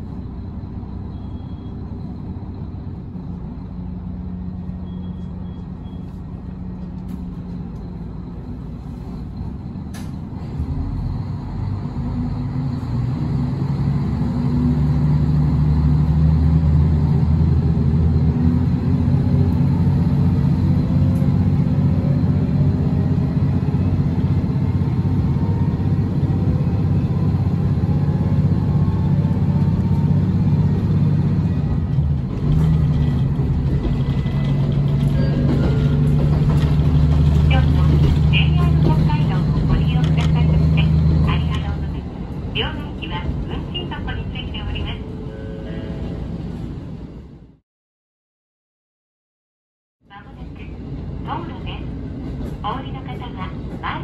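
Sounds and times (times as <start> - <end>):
diesel railcar engine: 0.0 - 47.6, 50.0 - 54.0.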